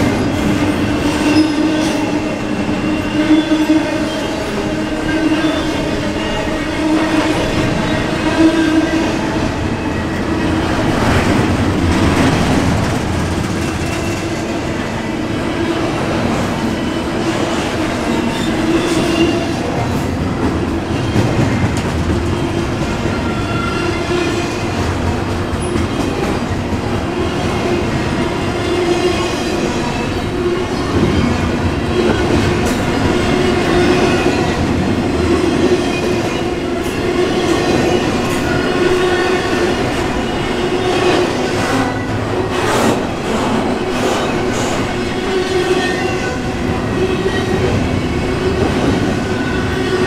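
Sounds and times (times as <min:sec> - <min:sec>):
steel train wheels on rail: 0:00.0 - 0:50.0.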